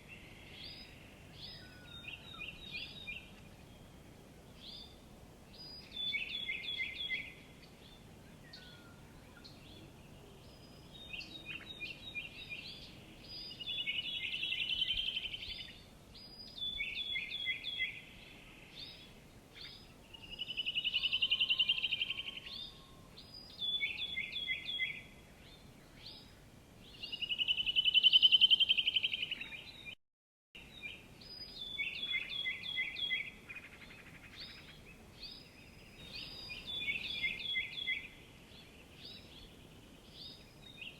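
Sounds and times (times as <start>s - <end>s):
songbird singing: 0.0s - 30.0s, 30.6s - 40.9s.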